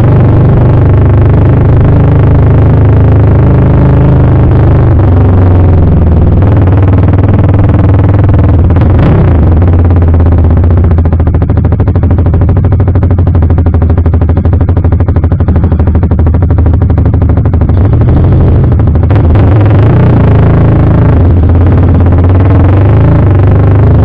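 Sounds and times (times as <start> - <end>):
motorcycle engine running loud: 0.0 - 24.0.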